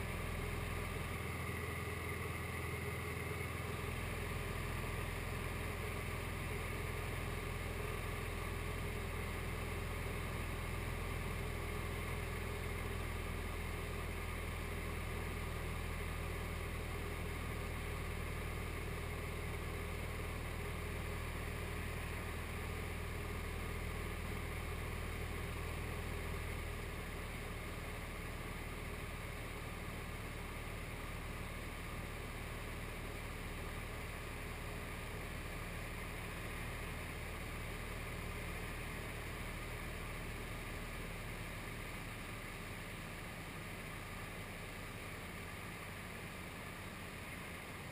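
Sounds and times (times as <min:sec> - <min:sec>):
light aircraft engine in flight: 0:00.0 - 0:47.9.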